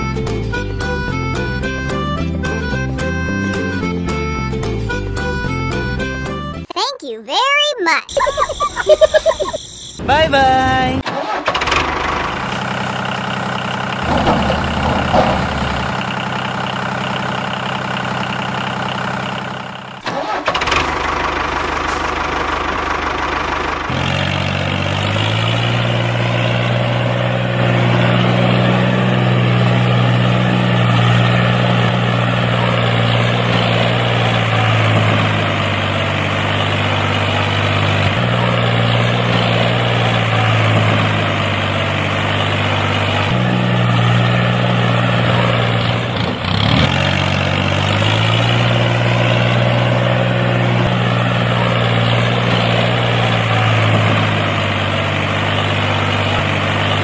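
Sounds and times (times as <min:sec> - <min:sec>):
tractor engine idling: 0:11.0 - 0:57.0.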